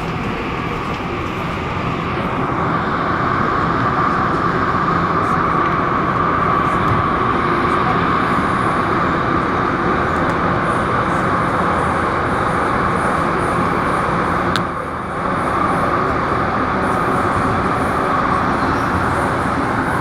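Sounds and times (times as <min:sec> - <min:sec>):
train running noise inside carriage: 0:00.0 - 0:20.0.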